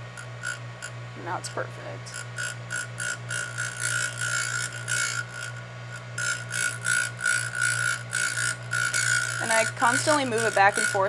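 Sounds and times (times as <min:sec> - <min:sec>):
grinder motor hum: 0:00.0 - 0:11.0
grinding wheel rasps: 0:00.0 - 0:11.0.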